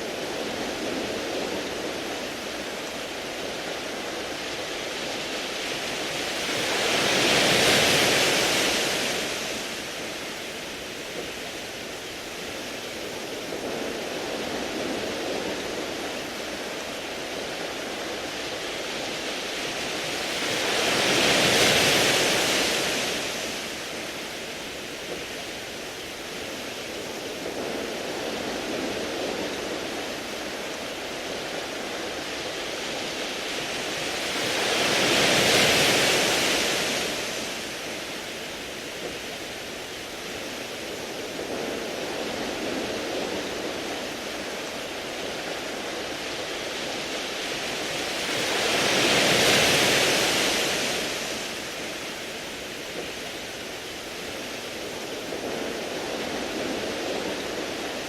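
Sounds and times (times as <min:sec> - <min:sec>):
large waves breaking: 0:00.0 - 0:58.0
waves washing on pebbles: 0:00.0 - 0:58.0.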